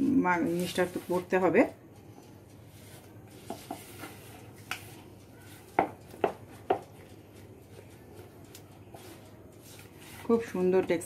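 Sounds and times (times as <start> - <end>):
spatula scraping and tapping bowl: 0.4 - 11.0.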